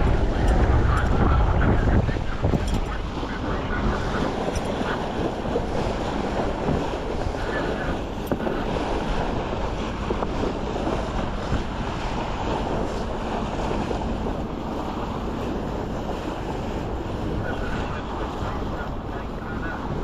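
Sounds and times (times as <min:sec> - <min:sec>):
water rushing along hull: 0:00.0 - 0:20.0
wind buffeting microphone: 0:00.0 - 0:20.0.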